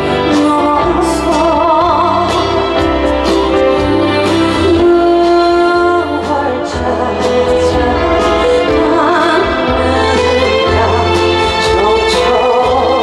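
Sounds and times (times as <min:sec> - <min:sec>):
band backing: 0:00.0 - 0:13.0
woman singing a ballad: 0:00.0 - 0:13.0.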